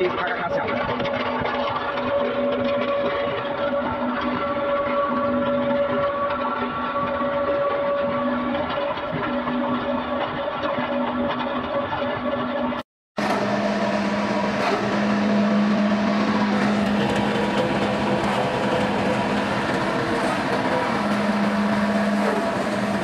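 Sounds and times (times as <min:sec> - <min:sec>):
constant rushing noise: 0:00.0 - 0:23.0
pellet mill motor humming: 0:00.0 - 0:23.0.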